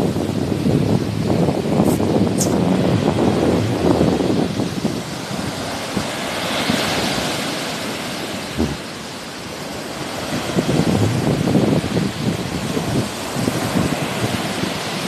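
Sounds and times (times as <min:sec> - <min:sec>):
sea waves washing onto shore: 0:00.0 - 0:15.0
wind rumbling on microphone: 0:00.0 - 0:15.0.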